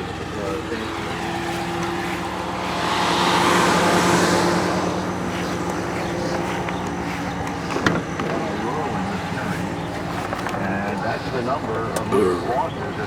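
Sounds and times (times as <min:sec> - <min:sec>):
engine hum: 0:00.0 - 0:13.0
passing vehicle rush: 0:00.0 - 0:13.0.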